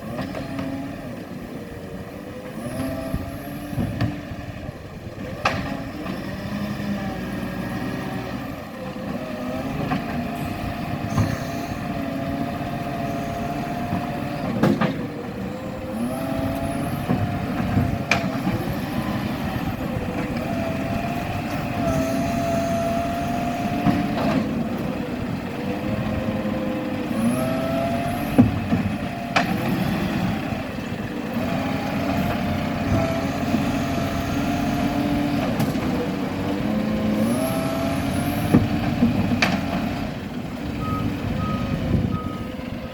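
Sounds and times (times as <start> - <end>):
garbage truck engine revving: 0.0 - 42.9.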